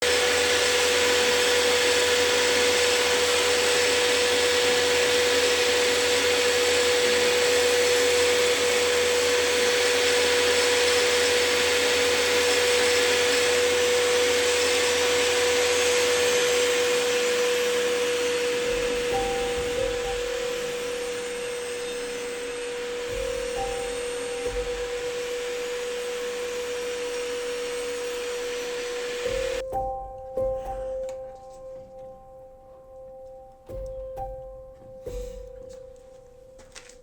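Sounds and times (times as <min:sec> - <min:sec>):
electric motor whining: 0:00.0 - 0:29.6.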